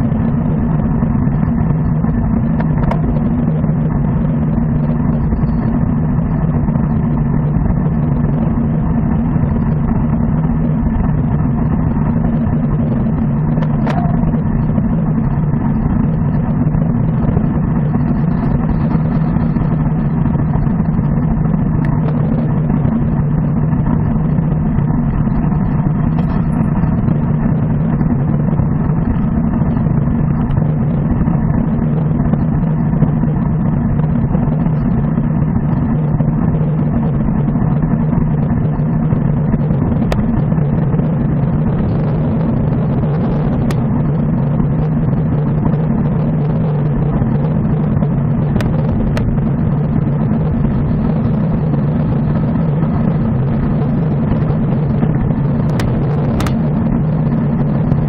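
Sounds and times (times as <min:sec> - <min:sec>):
road rumble: 0:00.0 - 0:58.0
wind: 0:00.0 - 0:58.0.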